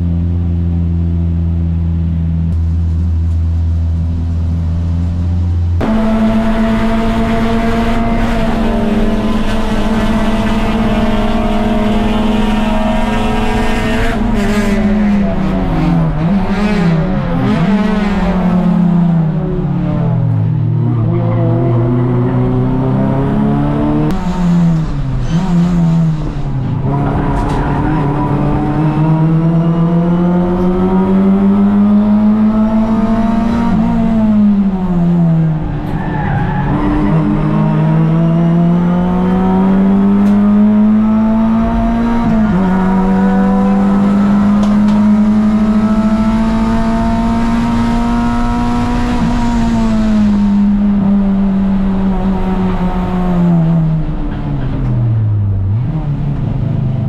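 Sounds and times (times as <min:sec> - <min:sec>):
race car engine revving: 0:02.5 - 0:57.0.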